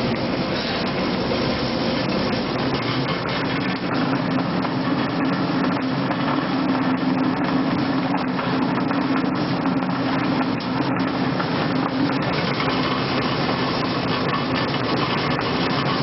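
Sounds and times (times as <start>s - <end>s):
pellet mill running: 0.0s - 16.0s.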